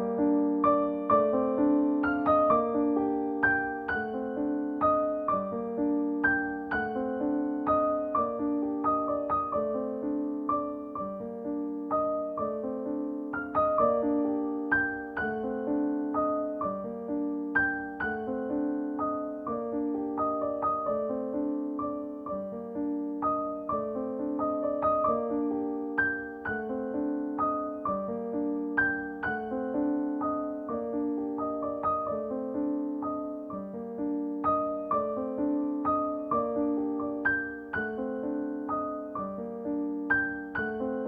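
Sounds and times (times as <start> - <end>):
gentle piano music: 0.0 - 41.0.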